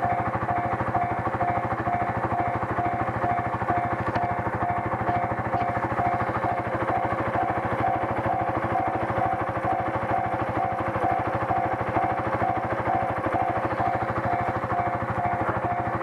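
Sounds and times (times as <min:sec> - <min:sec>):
level crossing bell ringing: 0:00.0 - 0:16.0
motorcycle engine idling: 0:00.0 - 0:16.0.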